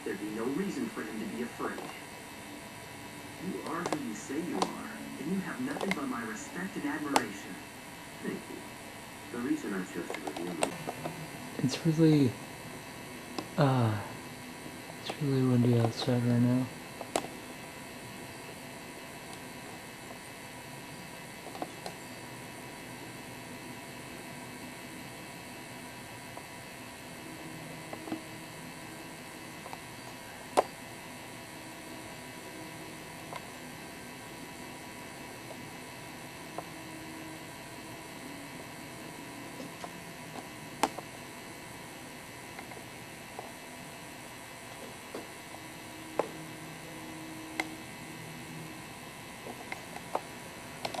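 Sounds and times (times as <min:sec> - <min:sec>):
room tone hiss and hum: 0:00.0 - 0:51.0.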